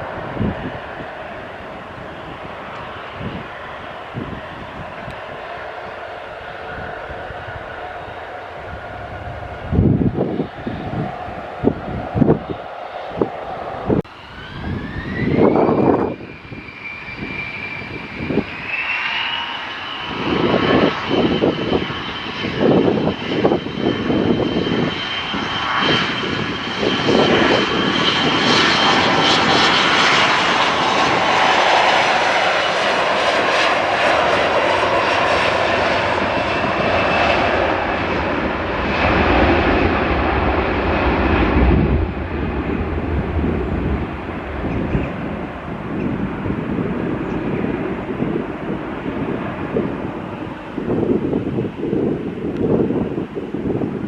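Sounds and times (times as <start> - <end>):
jet engines spooling up: 0.0 - 54.0
wind on microphone: 0.0 - 54.0.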